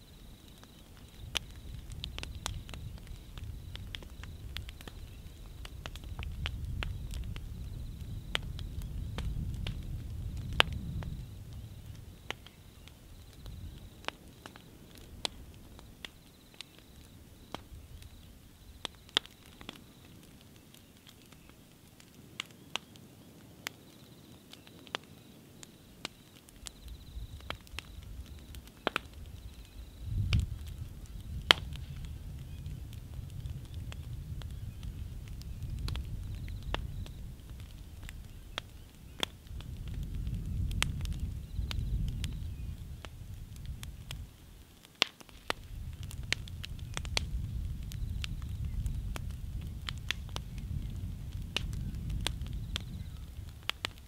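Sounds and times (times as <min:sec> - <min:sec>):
wind rumble on microphone: 0:00.0 - 0:16.3, 0:17.0 - 0:20.4, 0:26.6 - 0:44.7, 0:45.4 - 0:54.0
fire crackling and popping: 0:00.0 - 0:54.0.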